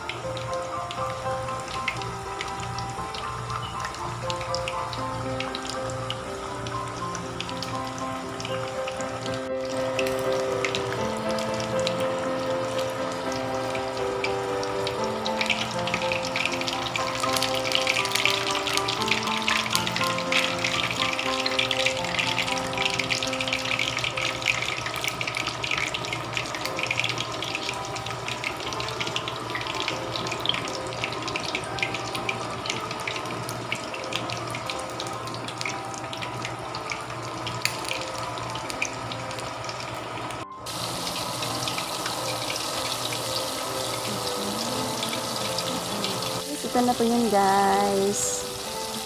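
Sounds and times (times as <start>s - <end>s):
meat sizzling and crackling in oil: 0.0s - 49.0s.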